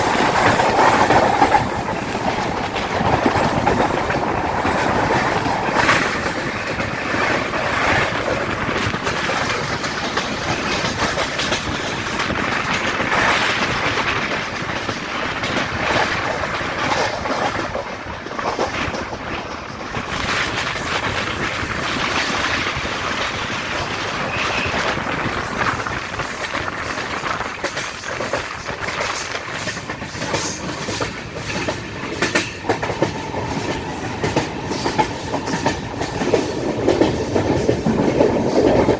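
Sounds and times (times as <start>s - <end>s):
clickety-clack over rail joints: 0.0s - 38.9s
train wheels rumbling on track: 0.0s - 38.9s.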